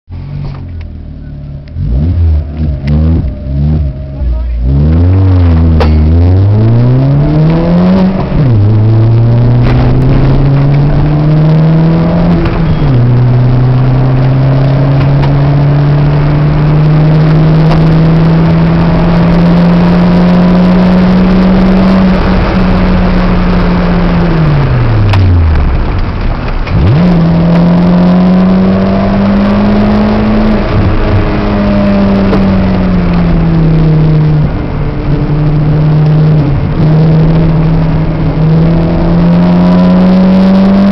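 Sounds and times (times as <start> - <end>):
car engine accelerating: 0.1 - 40.9.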